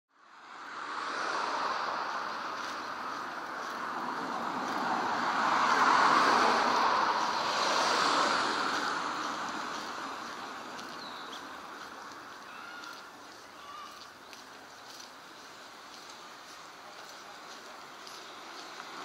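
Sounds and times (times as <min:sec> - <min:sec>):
car passing with rushing hiss: 0:00.2 - 0:19.0.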